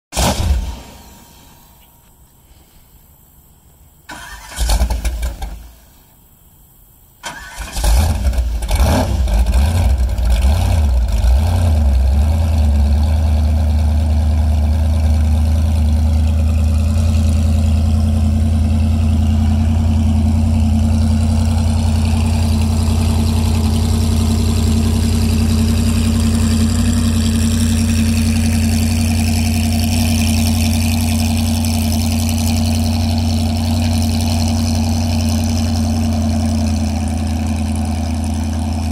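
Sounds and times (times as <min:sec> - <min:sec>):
boat engine starting and idling: 0:04.1 - 0:05.6, 0:07.2 - 0:38.9.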